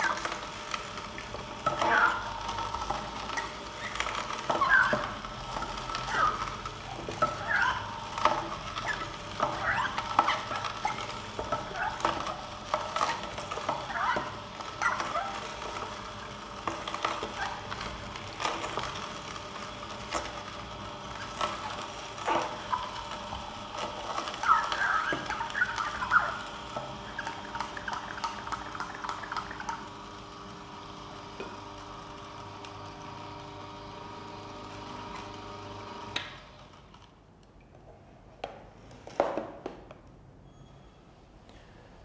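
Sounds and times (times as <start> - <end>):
motor hum: 0.0 - 37.1
juicer crushing vegetables: 0.0 - 37.2.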